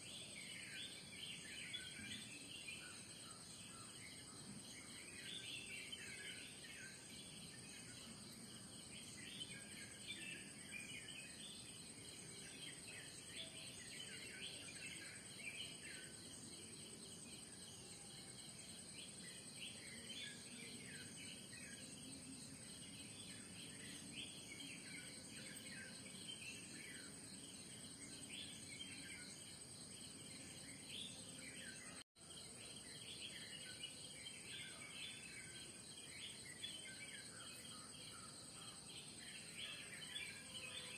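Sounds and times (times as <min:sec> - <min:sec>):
insect drone: 0:00.0 - 0:40.9.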